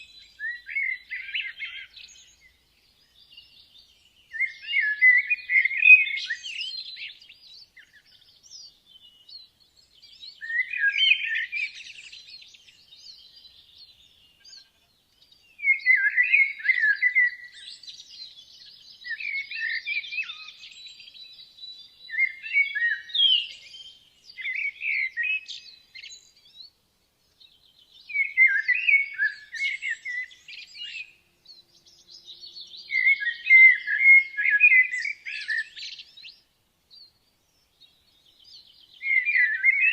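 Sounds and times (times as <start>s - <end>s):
birds chirping: 0.0s - 39.9s
songbird singing loud phrases: 0.0s - 39.9s.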